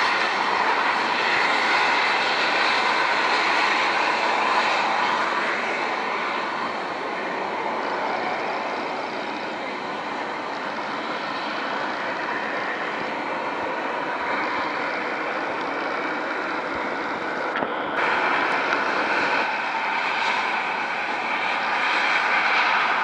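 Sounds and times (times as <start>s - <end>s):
train coaches rolling on track: 0.0s - 23.0s.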